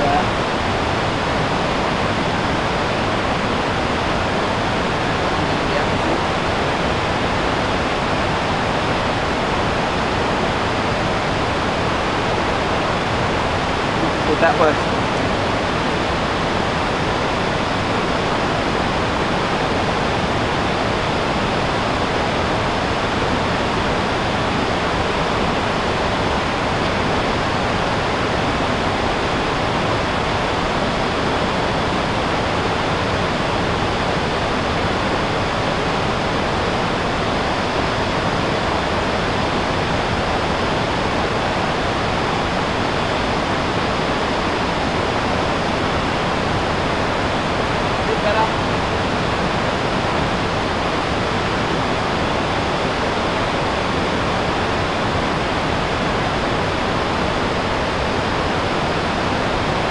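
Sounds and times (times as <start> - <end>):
river rapids roaring: 0.0 - 59.9.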